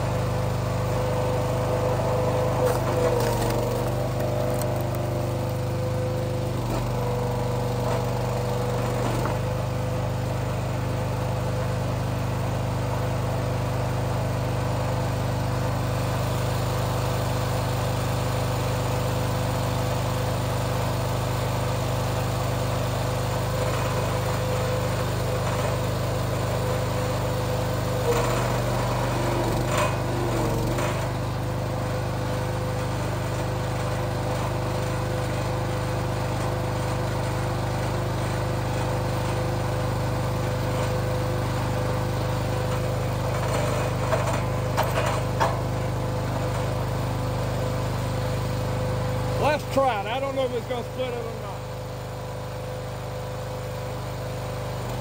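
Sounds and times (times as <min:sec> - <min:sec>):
small gas engine running: 0:00.0 - 0:55.0.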